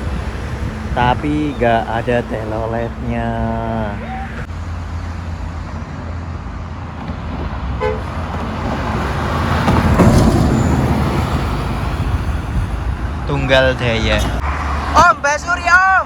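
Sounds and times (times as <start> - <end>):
large vehicle passing close: 0.0 - 15.0
road traffic rumbling: 0.0 - 16.0.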